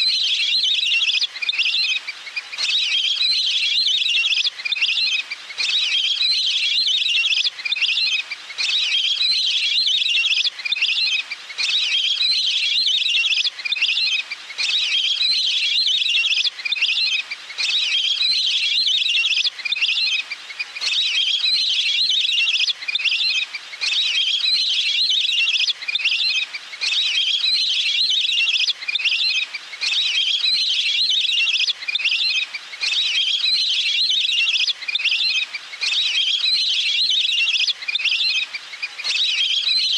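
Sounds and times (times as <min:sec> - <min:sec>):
recorded water bird trill: 0:00.0 - 0:39.9.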